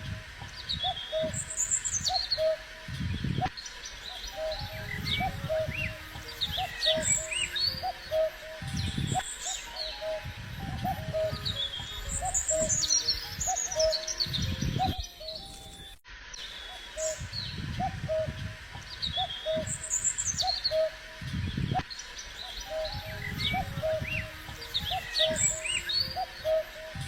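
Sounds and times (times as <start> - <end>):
birds chirping and trilling: 0.0 - 27.0
repeated low bird calls: 0.0 - 27.0.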